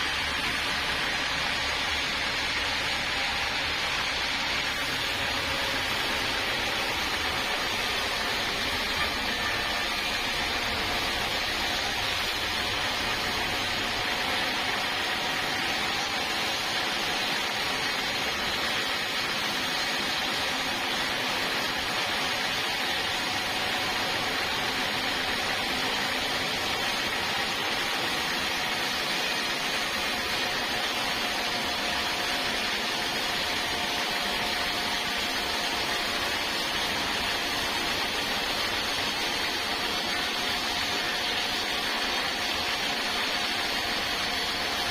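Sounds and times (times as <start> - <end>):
sawmill saw hissing: 0.0 - 44.9.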